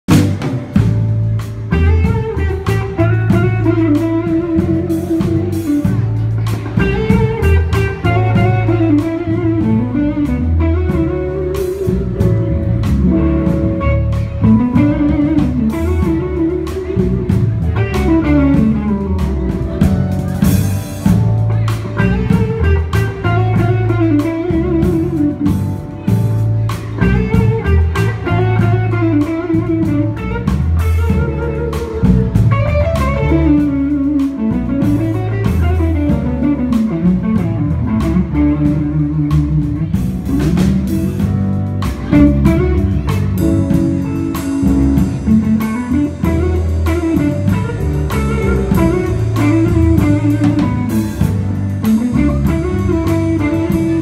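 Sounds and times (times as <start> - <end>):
electric guitar lead lines: 0.1 - 54.0
live blues band: 0.1 - 54.0.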